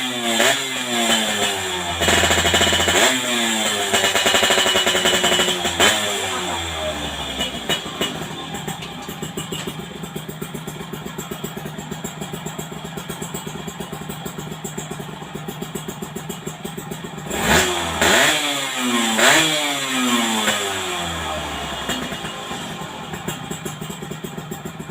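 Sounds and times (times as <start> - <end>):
two-stroke motorcycle engine revving: 0.0 - 24.9.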